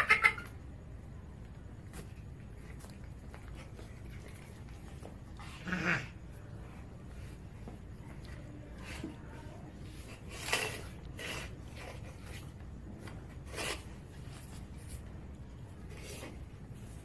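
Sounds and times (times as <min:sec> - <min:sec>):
low steady hum: 0:00.0 - 0:17.0
rustling scraping noises: 0:01.8 - 0:17.0.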